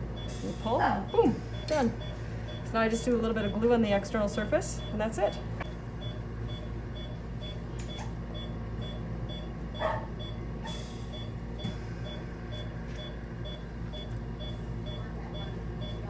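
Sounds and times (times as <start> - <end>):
low equipment hum: 0.0 - 16.0
monitor beeping: 0.2 - 16.0.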